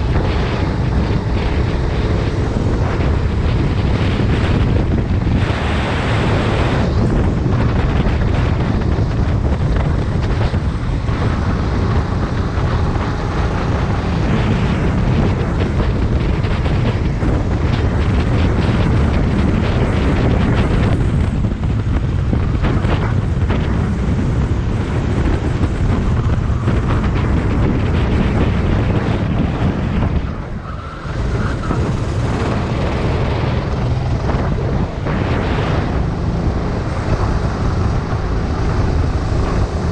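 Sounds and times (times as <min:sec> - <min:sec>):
go-kart engine racing: 0:00.0 - 0:39.9
wind buffeting microphone: 0:00.0 - 0:39.9.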